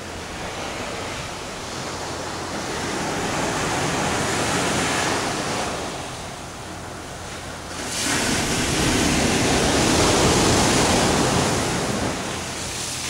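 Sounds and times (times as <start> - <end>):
sea surf breaking on shore: 0.0 - 13.0.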